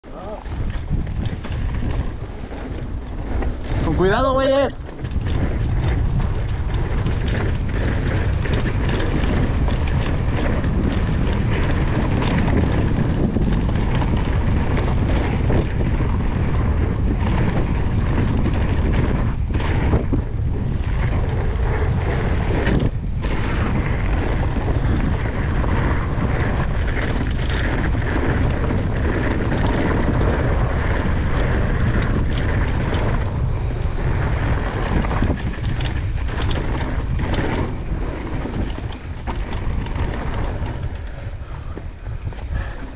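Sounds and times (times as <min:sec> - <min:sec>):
bike knocking and rattling: 0:00.0 - 0:42.9
bike tyre noise: 0:00.0 - 0:42.9
wind rushing over microphone: 0:00.0 - 0:42.9.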